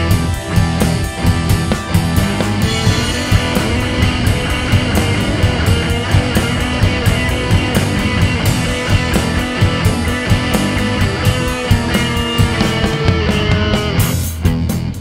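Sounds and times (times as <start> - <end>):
drum kit beat: 0.0 - 15.0
electric guitars: 0.0 - 15.0.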